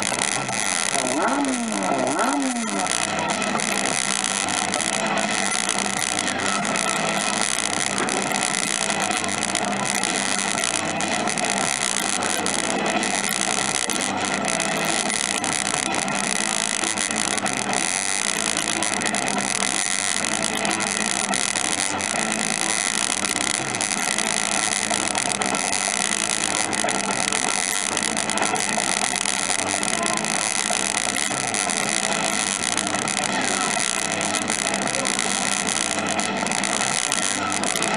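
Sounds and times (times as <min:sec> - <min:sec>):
held electronic tones: 0:00.0 - 0:37.9
machine hum: 0:00.0 - 0:37.9.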